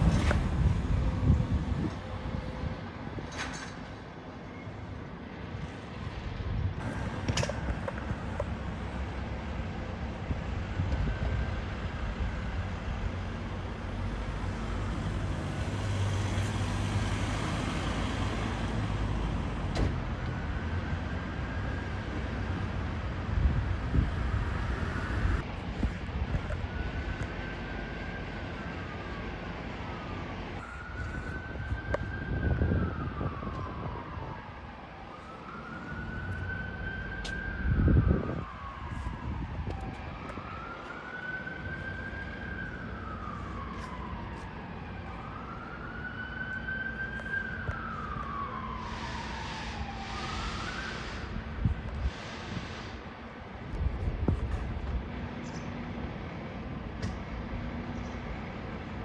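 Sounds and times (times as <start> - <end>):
low rumble of traffic: 0.0 - 59.0
emergency siren wailing: 6.8 - 55.2.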